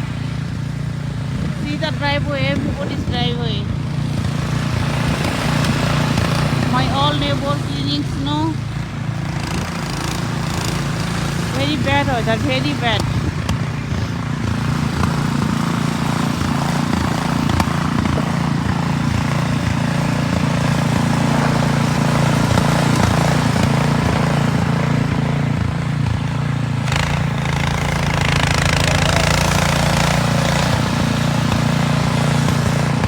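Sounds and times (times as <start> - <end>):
snowblower engine running: 0.0 - 33.0.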